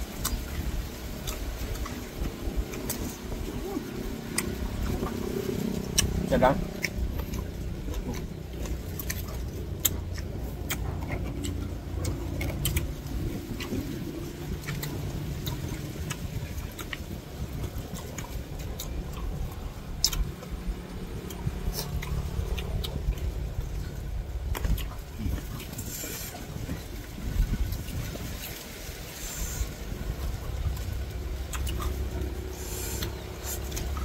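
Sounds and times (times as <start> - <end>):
air conditioning hum: 0.0 - 34.0.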